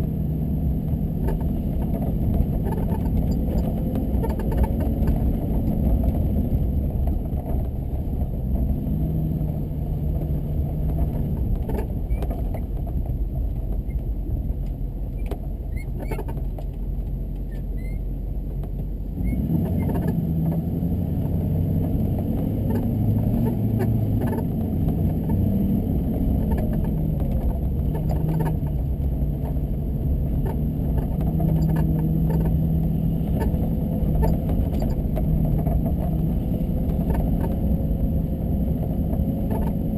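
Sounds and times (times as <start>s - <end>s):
car engine: 0.0s - 39.9s
road noise: 0.0s - 39.9s.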